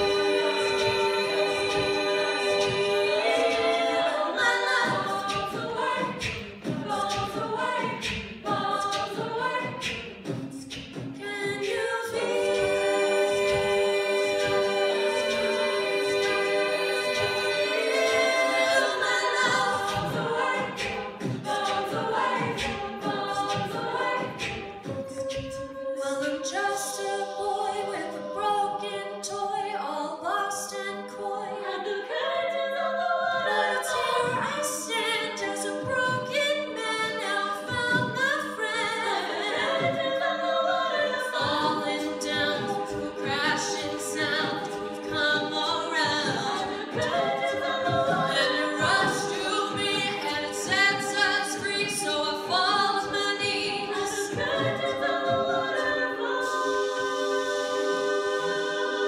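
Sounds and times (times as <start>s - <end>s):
women's a cappella group singing: 0.0s - 59.0s.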